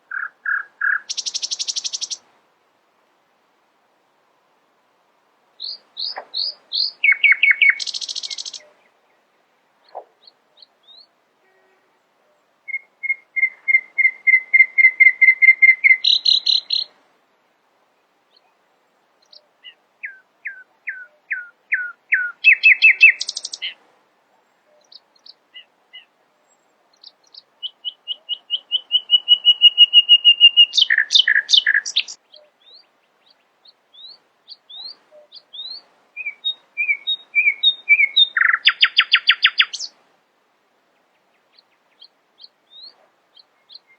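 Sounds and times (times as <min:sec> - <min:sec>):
nightingale singing: 0:00.0 - 0:02.3, 0:05.6 - 0:17.0, 0:19.2 - 0:23.8, 0:24.4 - 0:40.0, 0:40.9 - 0:43.9.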